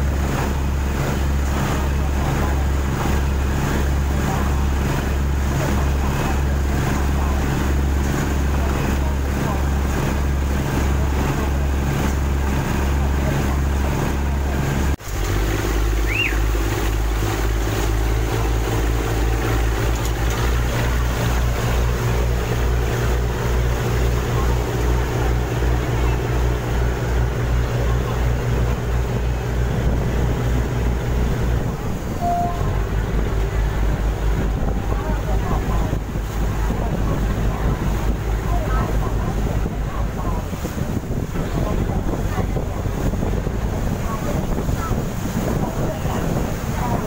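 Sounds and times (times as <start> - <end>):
boat diesel engine drone: 0.0 - 47.0
water rushing in wake: 0.0 - 47.0.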